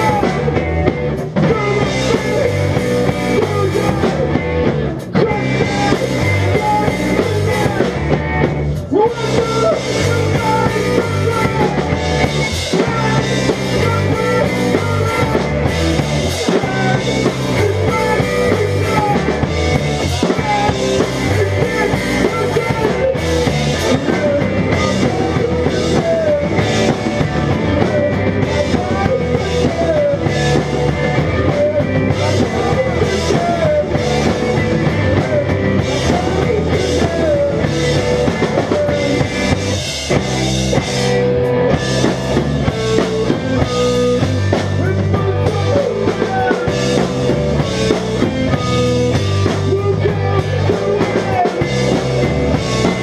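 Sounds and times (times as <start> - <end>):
drum kit: 0.0 - 53.0
electric guitars: 0.0 - 53.0.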